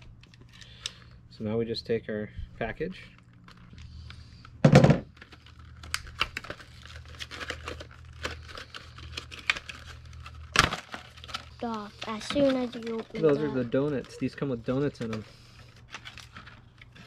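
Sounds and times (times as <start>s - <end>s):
plastic packaging crinkling: 3.0s - 17.0s
plastic ripping: 3.1s - 17.0s.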